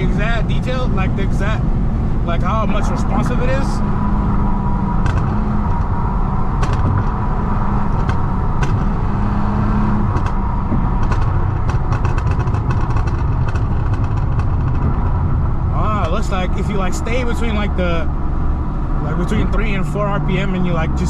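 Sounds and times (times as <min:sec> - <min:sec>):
car engine running while driving: 0:00.0 - 0:21.0
exhaust pops and crackles: 0:00.0 - 0:21.0.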